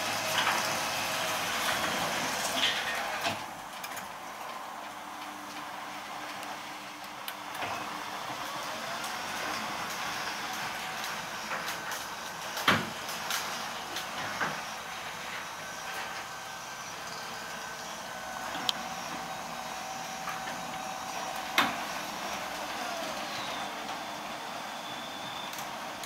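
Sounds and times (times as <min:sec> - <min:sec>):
faint motor whine: 0:00.0 - 0:26.0
garage door running noise: 0:00.0 - 0:26.0.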